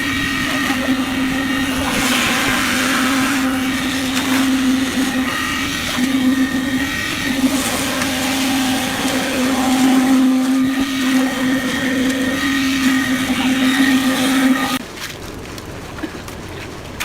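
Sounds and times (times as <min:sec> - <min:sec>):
machine motor humming: 0:00.0 - 0:14.8.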